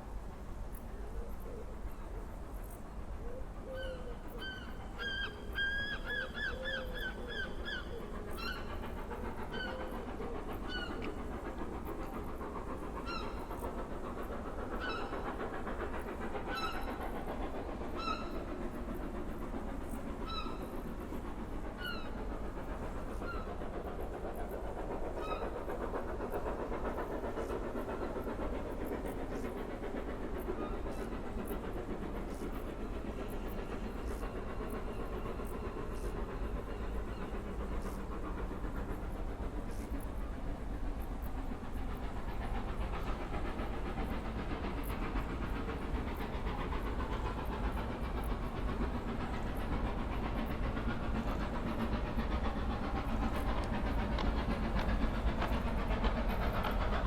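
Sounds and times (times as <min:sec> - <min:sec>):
steam train rumbling: 0:00.0 - 0:57.0.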